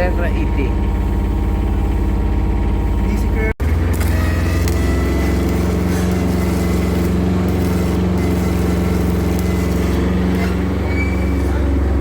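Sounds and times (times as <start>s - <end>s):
welder generator engine running: 0.0s - 12.0s.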